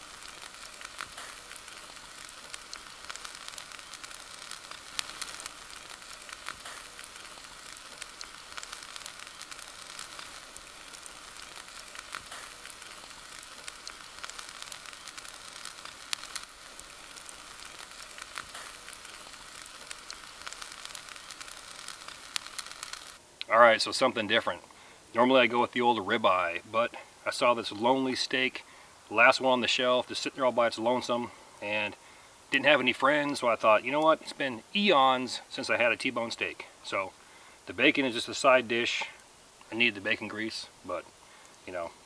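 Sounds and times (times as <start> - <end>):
steak sizzling with pops: 0.0 - 42.0.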